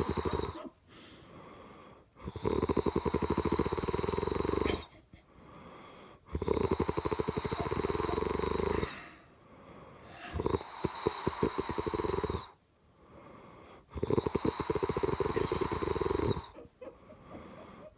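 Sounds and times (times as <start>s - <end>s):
heavy snoring: 0.0s - 0.6s, 1.2s - 4.9s, 5.5s - 16.6s
quiet breaths: 0.0s - 17.9s.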